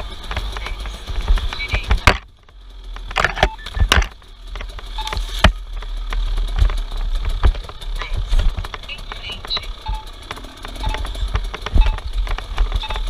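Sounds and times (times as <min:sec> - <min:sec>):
off-road vehicle rumbling: 0:00.0 - 0:13.0
vehicle knocks and bangs: 0:00.0 - 0:13.0.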